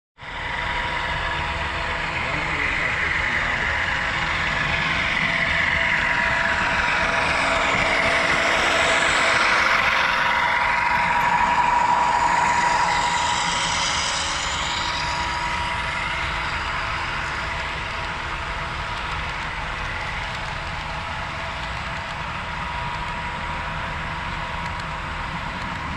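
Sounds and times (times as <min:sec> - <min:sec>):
hissing rumble of train: 0:00.2 - 0:25.9
model train diesel engine sound: 0:00.2 - 0:25.9.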